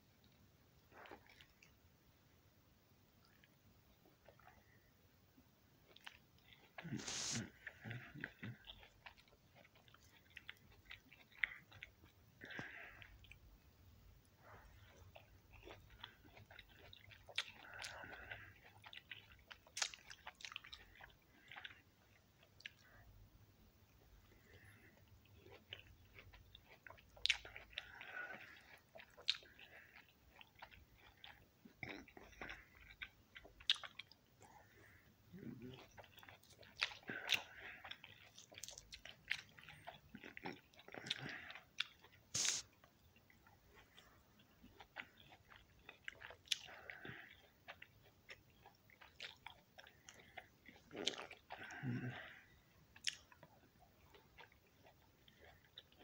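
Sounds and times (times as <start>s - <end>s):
person chewing: 0.3s - 1.8s, 3.2s - 4.8s, 5.8s - 23.0s, 23.9s - 56.0s.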